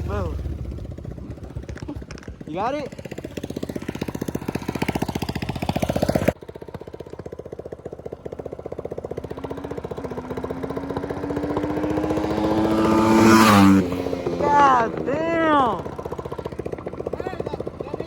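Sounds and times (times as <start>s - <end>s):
small motorbike engine running: 0.0s - 18.0s.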